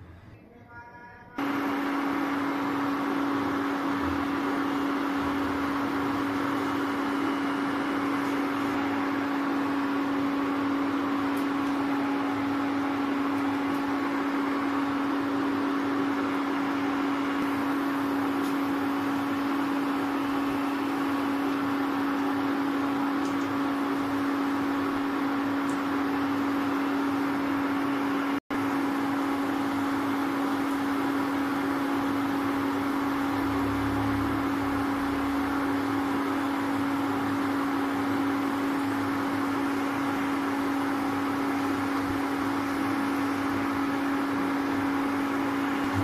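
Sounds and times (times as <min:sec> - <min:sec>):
cooling fan hum: 0:00.0 - 0:46.0.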